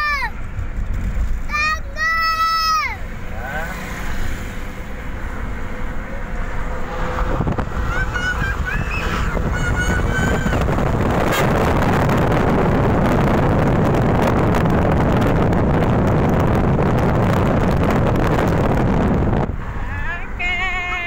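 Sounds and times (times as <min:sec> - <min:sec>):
road and traffic noise: 0:00.0 - 0:21.0
trucks passing: 0:00.0 - 0:21.0
wind buffeting microphone: 0:04.0 - 0:21.0.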